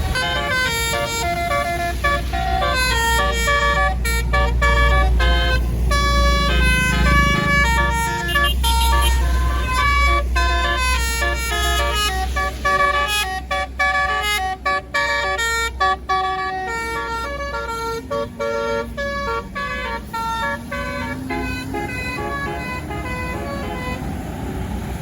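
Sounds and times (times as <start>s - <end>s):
multi-tone bus horn tune: 0.0s - 24.4s
bus engine rumble: 0.0s - 25.0s.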